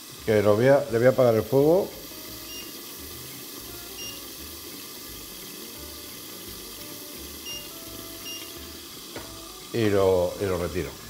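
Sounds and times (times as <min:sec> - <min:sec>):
oil sizzling in frying pans: 0:00.0 - 0:11.0.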